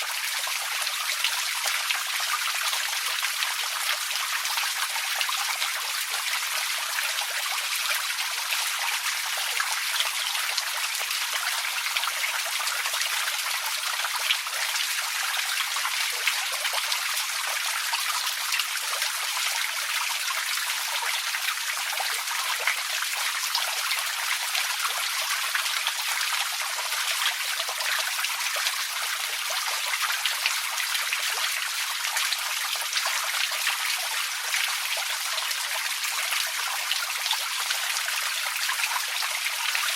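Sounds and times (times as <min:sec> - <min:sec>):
creek trickling over stones: 0:00.0 - 0:39.9.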